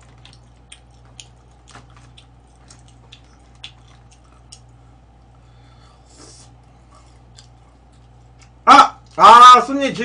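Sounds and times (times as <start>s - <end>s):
chewing food: 0.0s - 5.4s, 6.1s - 9.2s
steady low hum: 0.0s - 10.0s.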